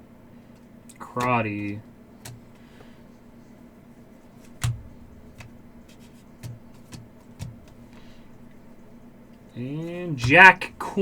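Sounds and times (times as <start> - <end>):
steady low hum: 0.0 - 11.0
trading cards being handled: 0.5 - 9.0, 9.6 - 11.0.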